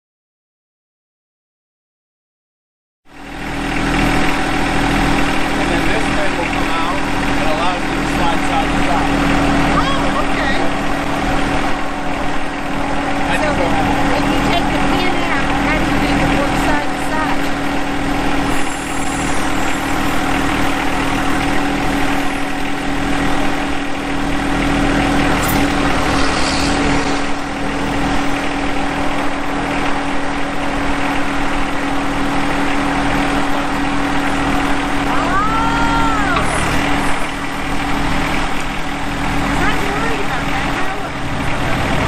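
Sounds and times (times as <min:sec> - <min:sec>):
diesel tractor engine idling: 0:03.1 - 0:42.0.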